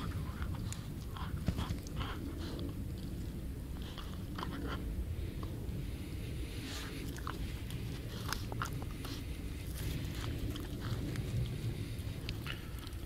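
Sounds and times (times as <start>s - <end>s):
dog chewing and gnawing: 0.0s - 4.9s, 6.6s - 13.0s
low steady rumble: 0.0s - 13.0s.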